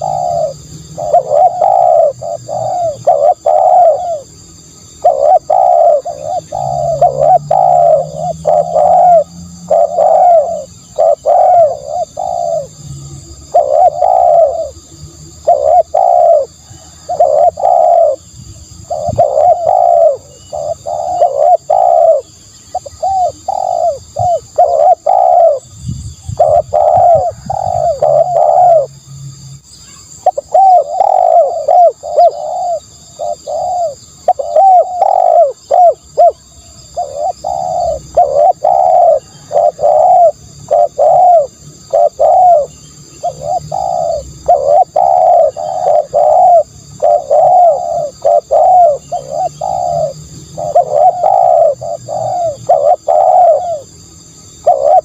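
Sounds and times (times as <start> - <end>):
dove cooing: 0.0 - 29.0, 29.9 - 55.0.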